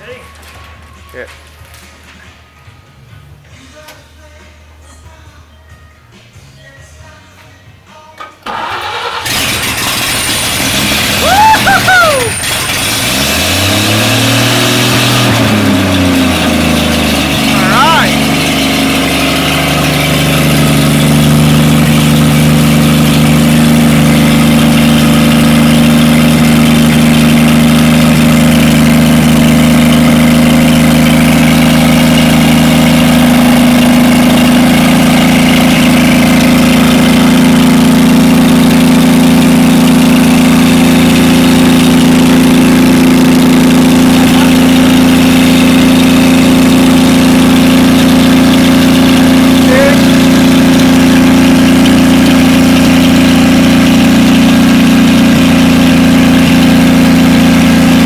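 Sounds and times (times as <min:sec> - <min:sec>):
truck engine idling: 0:08.5 - 0:58.0.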